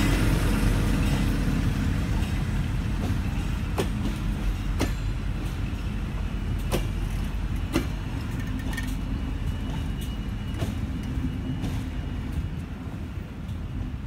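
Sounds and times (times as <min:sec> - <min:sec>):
wheels clacking over rail joints: 0:00.0 - 0:12.6
train coaches rumbling: 0:00.0 - 0:14.0.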